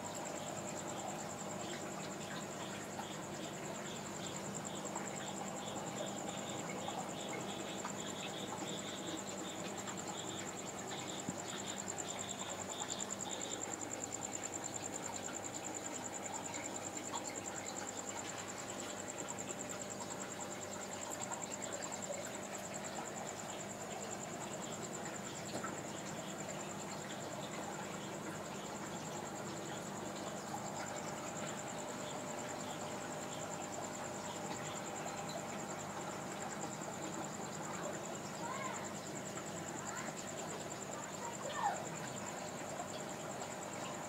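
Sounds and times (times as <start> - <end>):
insect high-pitched trill: 0.0 - 44.0
lower insect chirp: 0.0 - 44.0.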